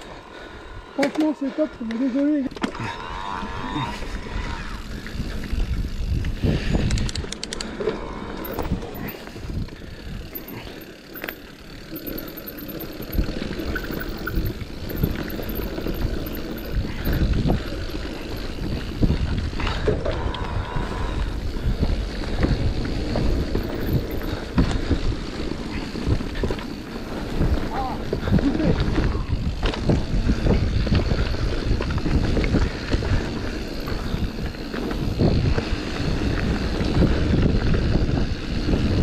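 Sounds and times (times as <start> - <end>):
bike tyres rumbling on dirt trail: 0.0 - 39.0
bike knocking and rattling: 4.8 - 20.6, 21.2 - 39.0.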